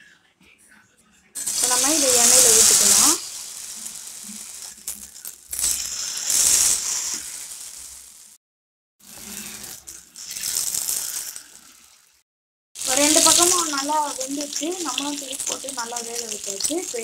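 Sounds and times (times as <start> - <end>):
balls sizzling in hot oil: 1.4 - 8.4, 9.0 - 12.2, 12.8 - 17.0.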